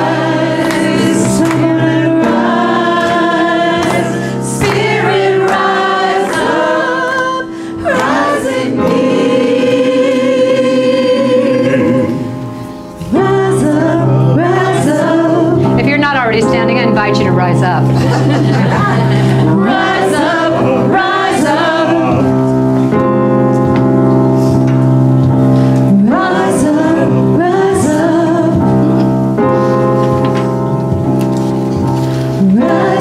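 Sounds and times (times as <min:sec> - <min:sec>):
choir singing gospel: 0:00.0 - 0:33.0.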